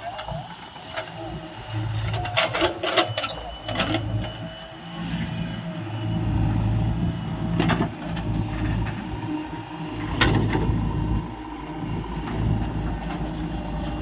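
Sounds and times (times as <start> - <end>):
diesel machinery engine running: 0.0 - 14.0.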